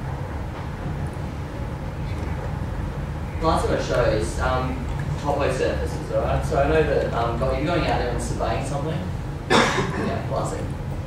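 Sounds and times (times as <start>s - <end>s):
low room rumble with hiss: 0.0s - 11.0s.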